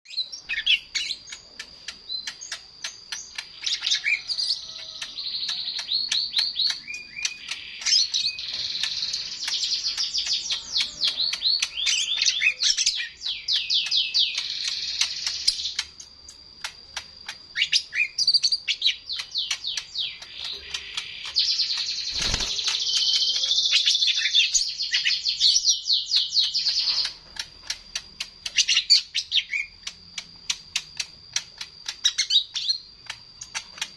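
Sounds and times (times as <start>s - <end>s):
songbird rapid high chirps: 0.1s - 33.9s.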